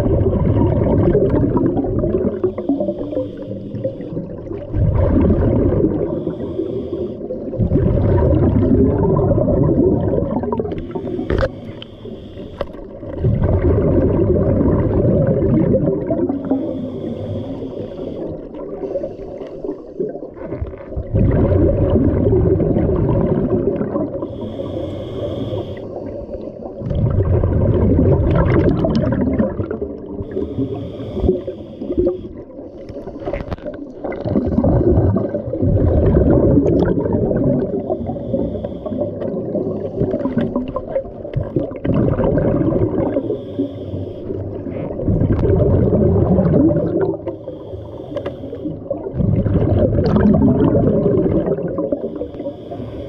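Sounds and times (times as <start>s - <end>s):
exhaled bubbles rumbling: 0.0s - 53.0s.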